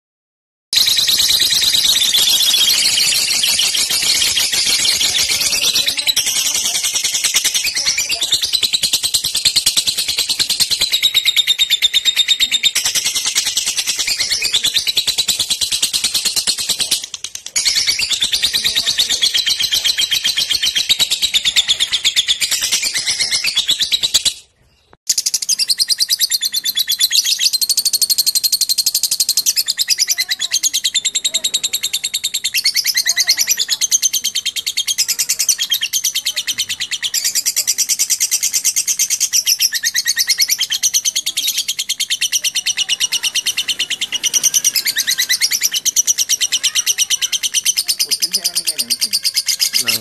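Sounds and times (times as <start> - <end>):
lovebirds chirping and trilling: 0.8 - 50.0.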